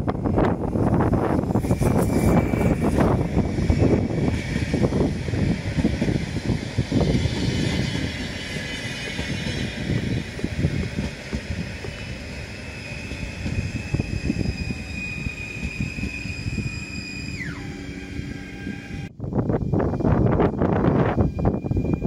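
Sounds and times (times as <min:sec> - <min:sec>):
train wheels rumbling on rails: 0:00.0 - 0:22.0
high electric whine: 0:00.1 - 0:10.2, 0:12.3 - 0:22.0.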